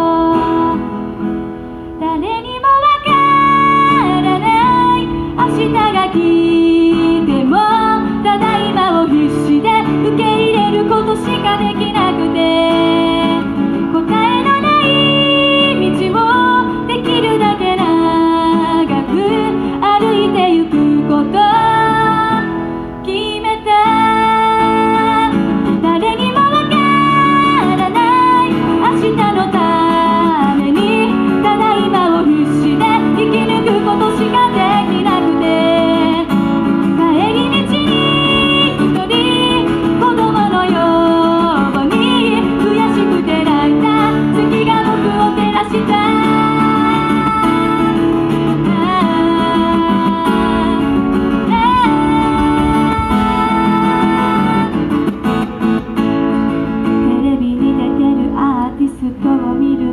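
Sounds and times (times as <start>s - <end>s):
woman singing: 0.0s - 1.4s, 2.0s - 55.4s, 56.8s - 59.9s
acoustic guitar strumming: 0.0s - 59.9s.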